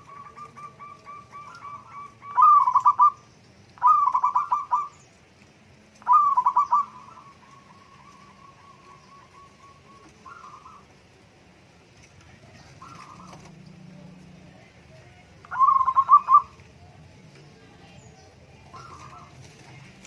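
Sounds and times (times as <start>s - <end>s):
dove cooing: 0.0s - 5.1s, 6.0s - 11.3s, 12.2s - 17.6s, 18.5s - 20.0s.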